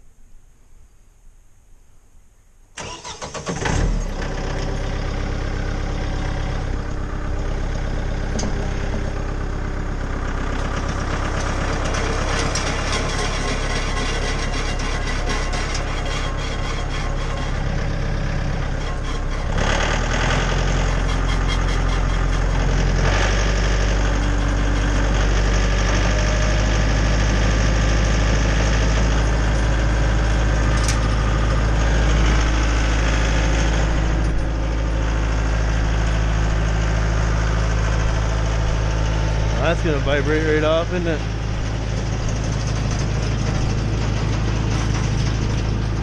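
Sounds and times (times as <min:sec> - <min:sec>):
tractor engine running wood chipper: 0:02.8 - 0:46.0.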